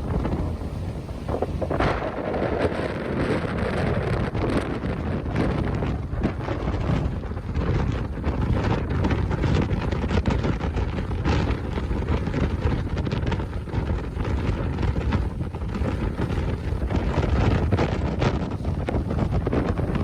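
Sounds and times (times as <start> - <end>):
boat engine noise: 0.0 - 20.0
wind buffeting microphone: 0.0 - 20.0.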